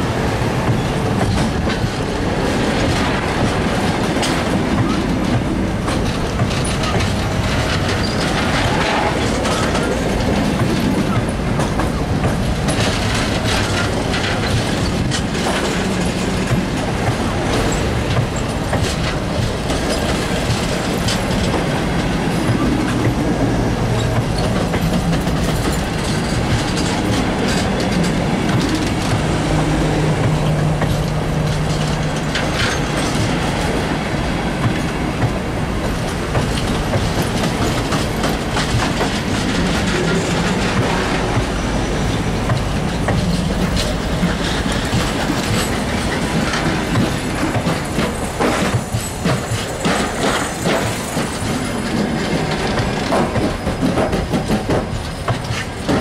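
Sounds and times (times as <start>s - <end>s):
train rumbling past: 0.0s - 56.0s
train wheel clicks: 0.0s - 56.0s.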